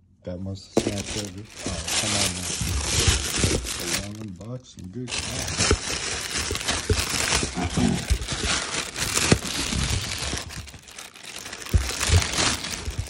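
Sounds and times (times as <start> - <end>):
plastic bag crinkling: 0.8 - 13.0.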